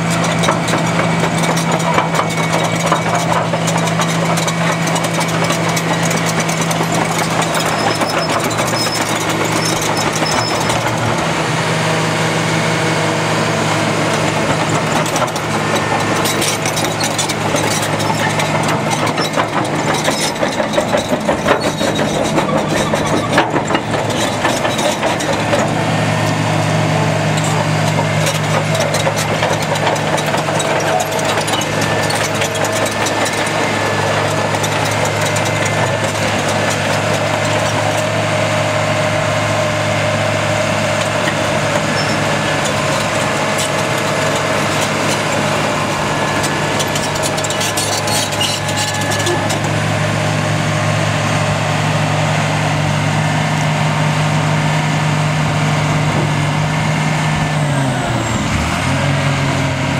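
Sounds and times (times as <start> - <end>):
diesel engine running steadily: 0.0 - 59.9.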